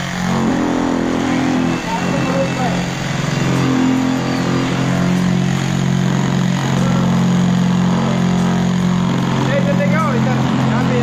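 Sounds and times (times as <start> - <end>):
tile vibrator motor hum: 0.0 - 11.0.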